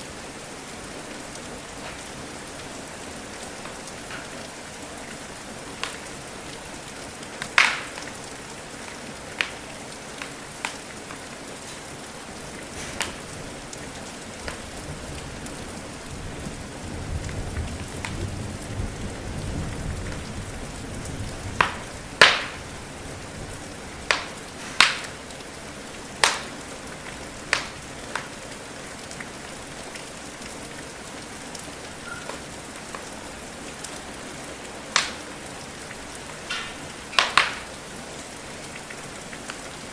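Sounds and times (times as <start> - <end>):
rain hiss: 0.0 - 39.9
fireplace crackling and popping: 0.1 - 39.9.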